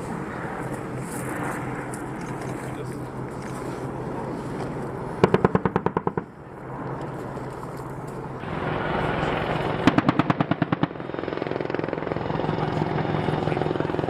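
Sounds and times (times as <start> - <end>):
helicopter rotors and engines: 0.0 - 14.0.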